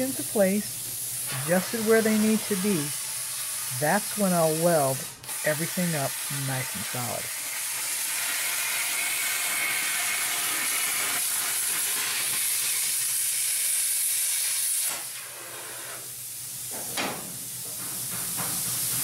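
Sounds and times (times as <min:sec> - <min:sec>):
plasma torch cutting steel: 0:00.0 - 0:19.0.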